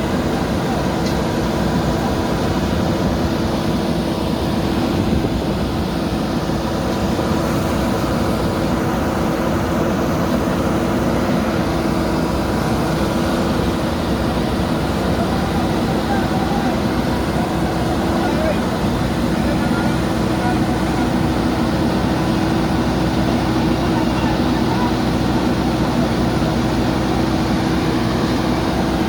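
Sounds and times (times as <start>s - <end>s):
diesel engine running steadily: 0.0s - 29.0s.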